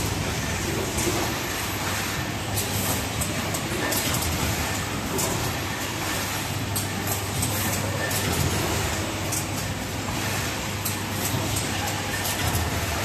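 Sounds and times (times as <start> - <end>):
machinery hum and whir: 0.0 - 13.0.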